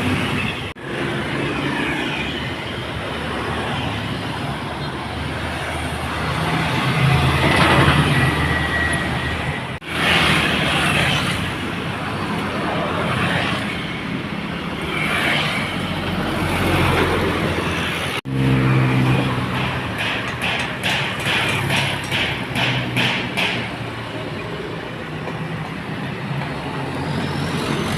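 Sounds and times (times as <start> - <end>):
road and tyre noise: 0.0 - 27.9.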